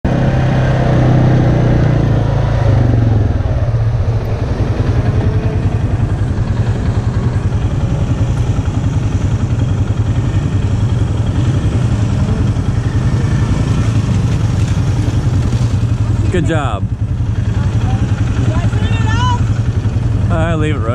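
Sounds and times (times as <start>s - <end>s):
atv engine idling: 0.1s - 20.9s.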